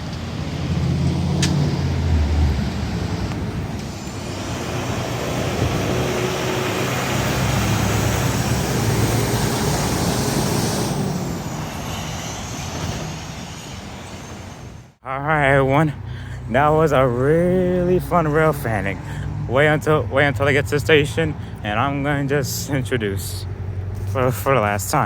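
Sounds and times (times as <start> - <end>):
heavy vehicle engine: 0.0 - 25.0
tyre and road noise: 0.0 - 25.0.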